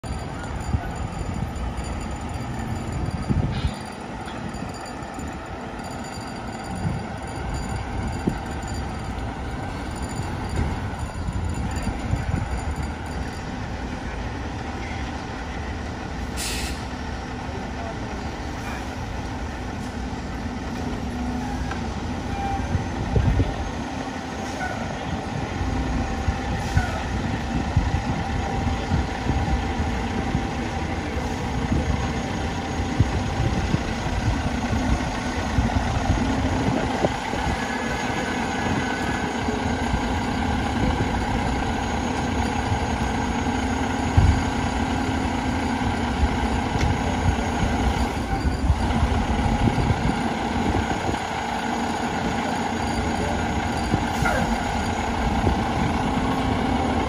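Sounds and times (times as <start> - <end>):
diesel fire engine running: 0.0 - 57.0.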